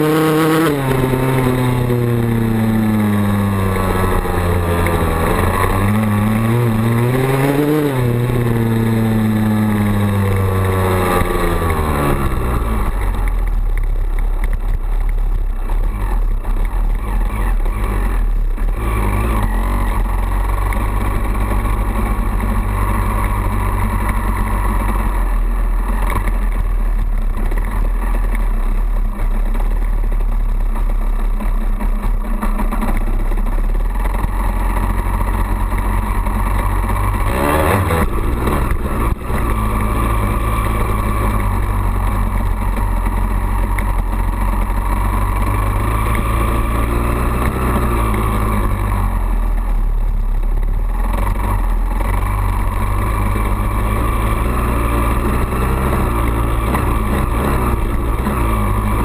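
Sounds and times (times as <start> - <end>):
two-stroke motorcycle engine: 0.0 - 59.0.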